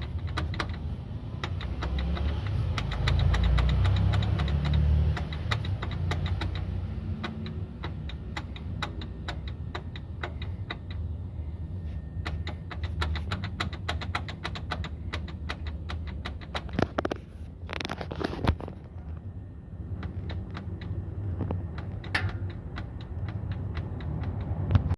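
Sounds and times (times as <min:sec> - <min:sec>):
car engine humming: 0:00.0 - 0:24.9
suspension clicks and knocks: 0:00.0 - 0:24.9
suspension clunks: 0:00.0 - 0:24.9.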